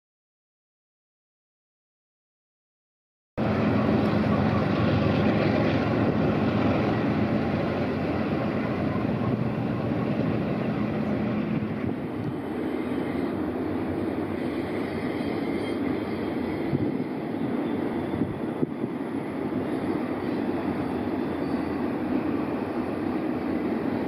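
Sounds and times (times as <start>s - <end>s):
train wheels rumbling on rails: 3.4s - 24.0s.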